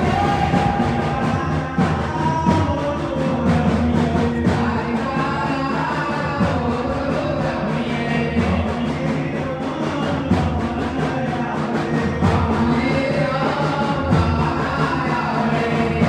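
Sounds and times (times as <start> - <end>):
dance music percussion: 0.0 - 16.0
person singing: 0.0 - 16.0.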